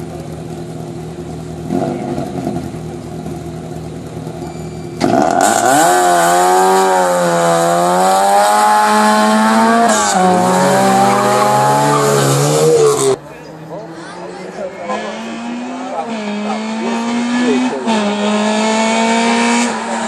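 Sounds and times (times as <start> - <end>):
car accelerating at full throttle: 0.0 - 20.0
car engine idling and revving: 0.0 - 20.0.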